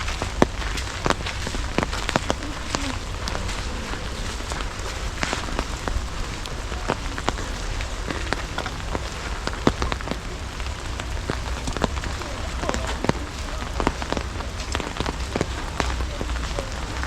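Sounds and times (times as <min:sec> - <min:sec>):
low rumble: 0:00.0 - 0:17.0
rain falling: 0:00.0 - 0:17.0.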